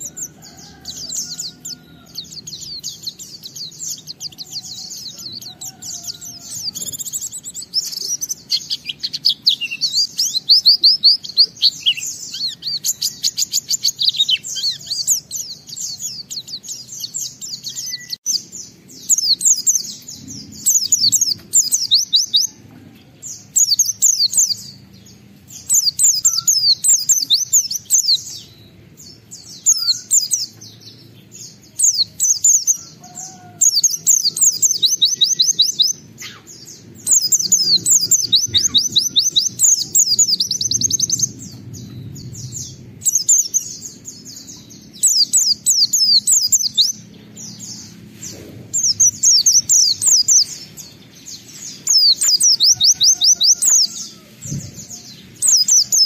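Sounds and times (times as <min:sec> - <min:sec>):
faint low background rumble: 0:00.0 - 0:33.0, 0:33.6 - 0:56.0.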